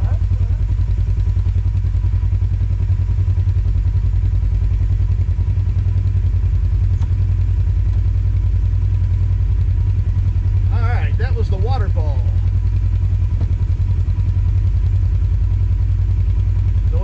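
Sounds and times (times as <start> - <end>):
vehicle engine deep drone: 0.0 - 17.0.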